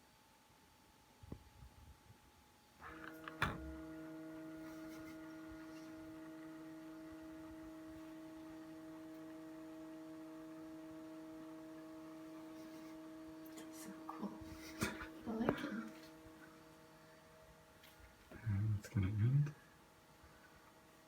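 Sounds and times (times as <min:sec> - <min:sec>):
dishwasher motor humming: 0:02.8 - 0:21.0.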